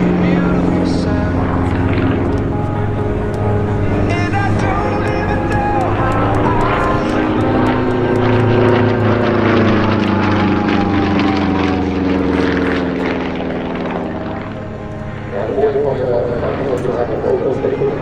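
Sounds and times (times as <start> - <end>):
propeller plane engine: 0.0 - 18.0.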